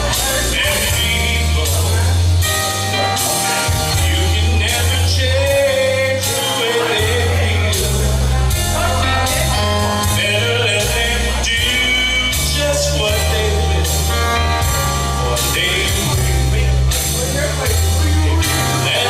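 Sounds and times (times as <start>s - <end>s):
bass notes: 0.0s - 19.0s
drum beat: 0.0s - 19.0s
person singing: 0.0s - 19.0s.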